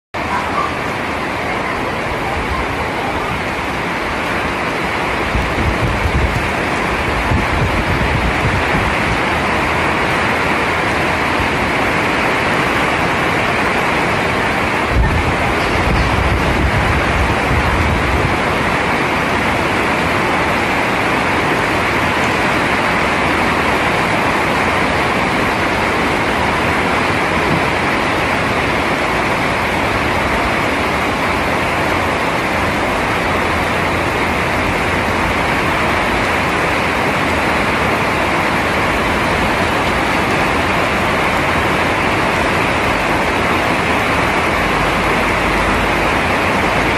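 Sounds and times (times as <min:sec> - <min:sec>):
heavy rain falling: 0:00.2 - 0:46.9.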